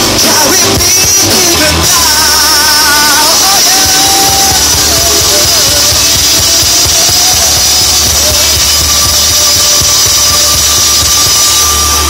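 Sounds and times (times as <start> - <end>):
live rock band playing loudly: 0.0 - 12.0.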